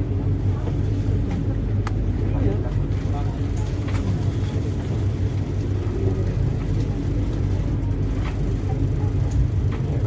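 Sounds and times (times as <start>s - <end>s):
train rumble inside coach: 0.0s - 10.0s.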